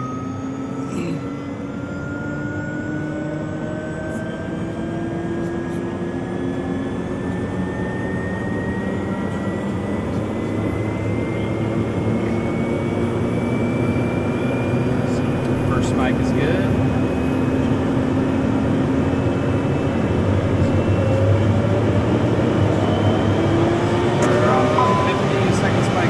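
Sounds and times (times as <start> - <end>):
turboprop engine whine rising: 0.0 - 26.0.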